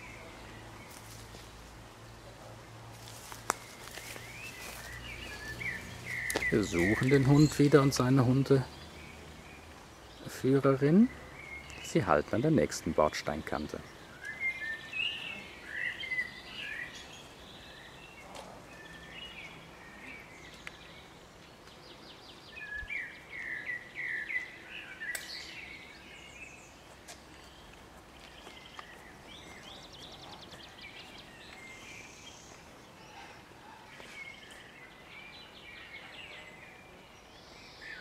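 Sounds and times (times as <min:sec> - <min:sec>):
outdoor background noise: 0:00.0 - 0:38.0
songbirds singing: 0:00.0 - 0:38.0.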